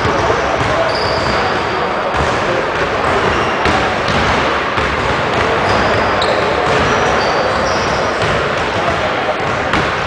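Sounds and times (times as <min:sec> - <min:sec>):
basketballs bouncing on hardwood: 0:00.0 - 0:10.0
din of busy gymnasium: 0:00.0 - 0:10.0.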